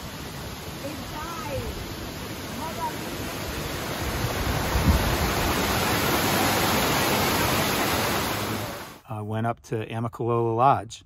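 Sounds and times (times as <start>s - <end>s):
loud rush of falling water: 0.0s - 9.0s.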